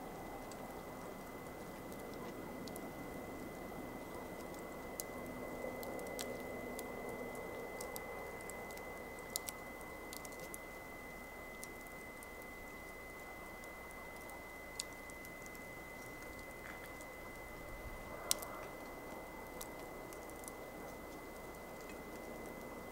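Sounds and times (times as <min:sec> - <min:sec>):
campfire crackling and popping: 0:00.0 - 0:22.9.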